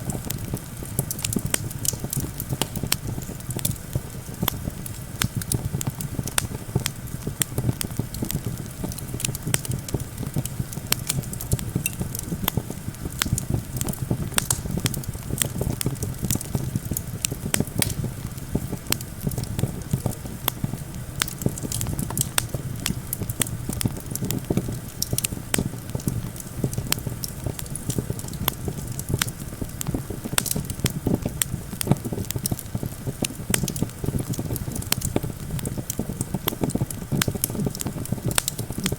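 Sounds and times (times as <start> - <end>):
campfire crackling and popping: 0.0 - 38.9
low rumble of wind: 0.0 - 38.9.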